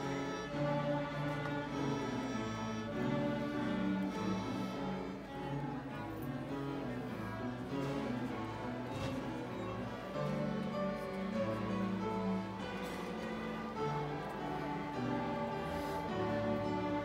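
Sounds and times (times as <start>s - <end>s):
string orchestra playing: 0.0s - 17.0s.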